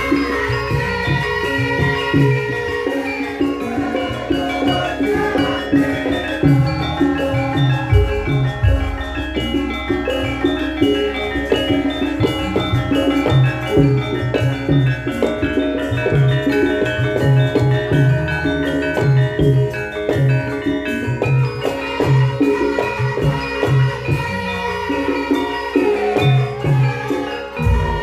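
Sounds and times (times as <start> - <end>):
struck bronze metallophone notes: 0.0 - 28.0.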